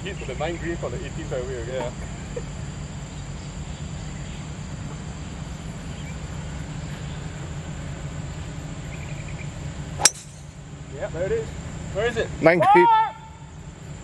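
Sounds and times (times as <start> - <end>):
low outdoor hum: 0.0 - 14.0.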